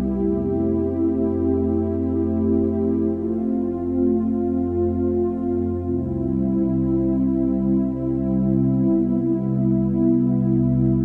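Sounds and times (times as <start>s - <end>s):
slow music of held chords: 0.0s - 11.0s.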